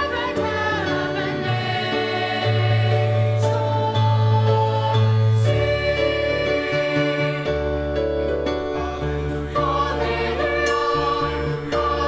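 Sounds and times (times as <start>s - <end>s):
choir singing a carol: 0.0s - 12.0s.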